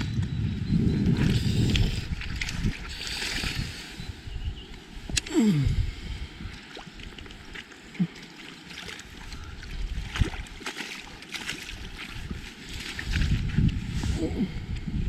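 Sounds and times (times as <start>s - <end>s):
water sloshing and lapping: 0.0s - 15.0s.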